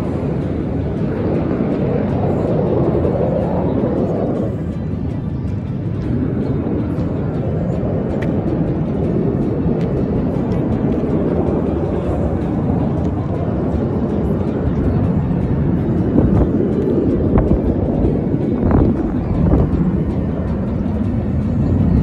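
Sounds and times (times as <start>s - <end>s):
aircraft engine rumble: 0.0s - 22.0s.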